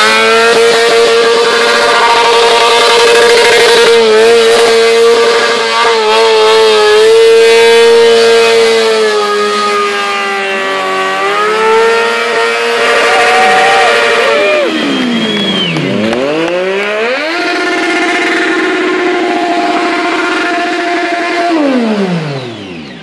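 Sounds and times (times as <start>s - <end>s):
motorcycle engine revving high: 0.0s - 23.0s.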